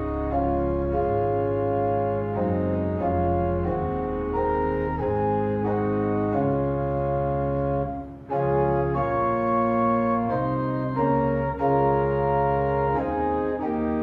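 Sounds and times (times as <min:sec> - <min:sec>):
organ chords: 0:00.0 - 0:14.0.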